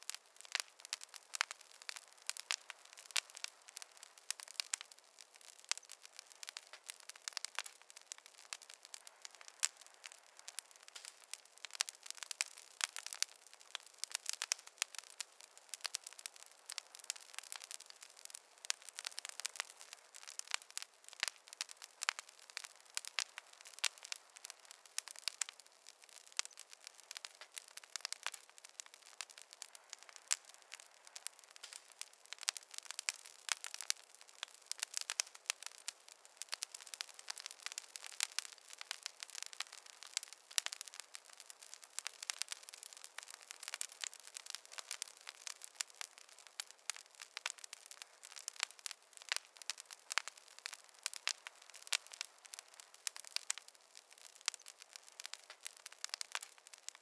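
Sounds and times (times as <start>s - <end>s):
soft steady hiss: 0.0s - 57.0s
wood fire crackling: 0.0s - 57.0s.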